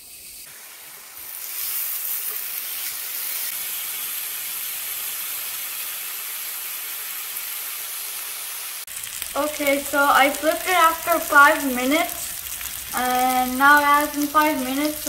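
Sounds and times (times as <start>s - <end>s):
meat patties sizzling in oil: 0.0s - 15.0s.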